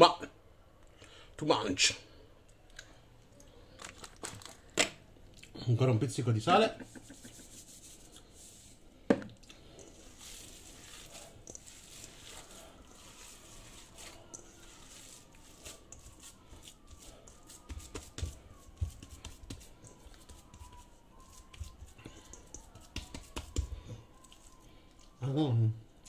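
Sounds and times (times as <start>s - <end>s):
wet squishing of meat mixture: 2.7s - 5.6s, 6.4s - 26.0s.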